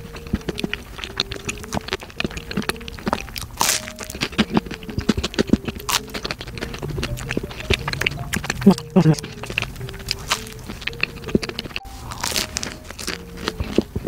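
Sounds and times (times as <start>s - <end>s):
chewing crunchy bagel: 0.0s - 14.0s
wet mouth clicks: 0.0s - 14.0s.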